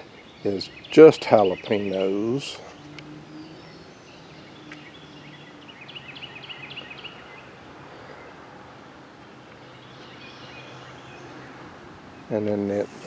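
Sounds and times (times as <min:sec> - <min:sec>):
bird chirping: 0:00.0 - 0:08.4, 0:09.2 - 0:13.0
faint outdoor background noise: 0:00.0 - 0:13.0.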